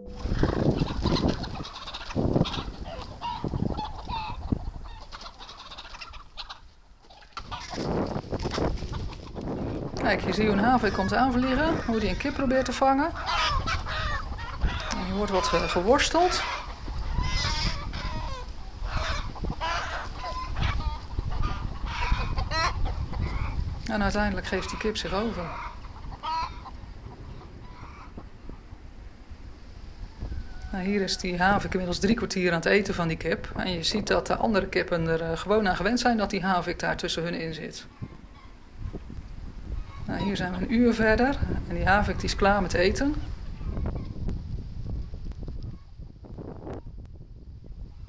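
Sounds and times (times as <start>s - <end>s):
chickens clucking: 0.0s - 44.4s.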